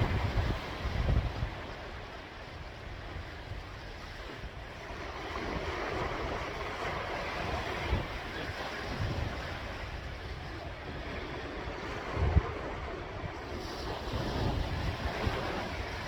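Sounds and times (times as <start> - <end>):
sea waves washing in: 0.0 - 16.0
wind buffeting microphone: 0.0 - 16.0.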